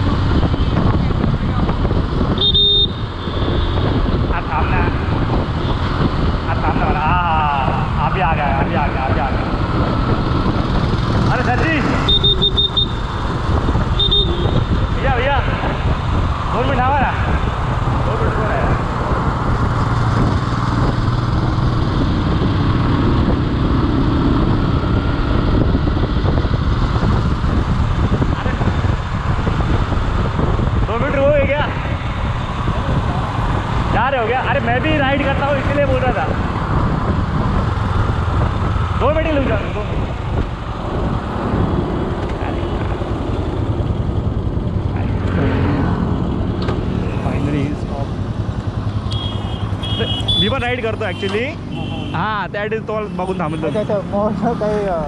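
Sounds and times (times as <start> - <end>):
wind noise on microphone: 0.0 - 50.7.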